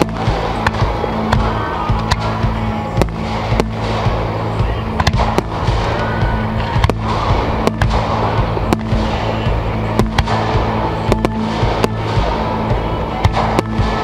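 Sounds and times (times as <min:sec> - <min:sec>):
dense crackling: 0:00.0 - 0:14.0
firework shells bursting: 0:00.0 - 0:14.0.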